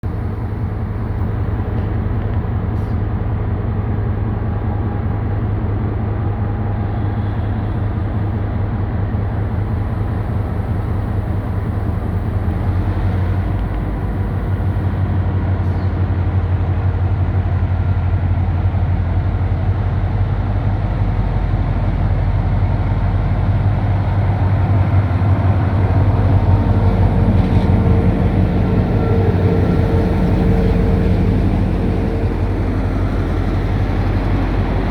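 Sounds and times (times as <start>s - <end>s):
diesel locomotive engine humming: 0.0s - 34.9s.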